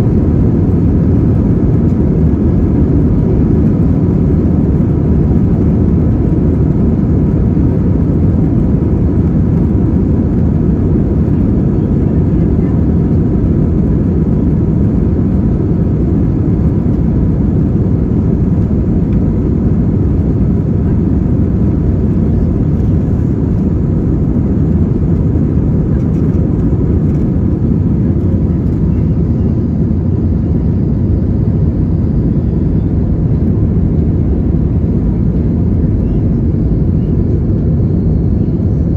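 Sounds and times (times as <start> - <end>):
aircraft cabin engine roar: 0.0 - 38.9.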